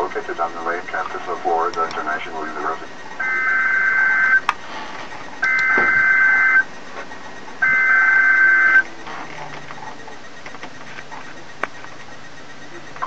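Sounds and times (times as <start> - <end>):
buzzy two-tone data bursts: 0.0 - 13.0.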